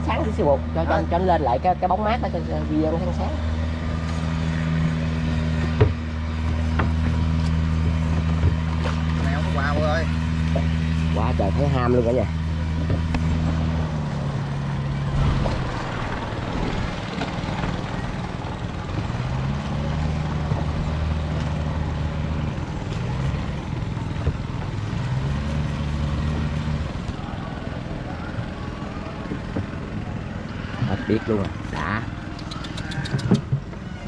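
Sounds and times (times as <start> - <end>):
small engine droning: 0.0 - 34.0.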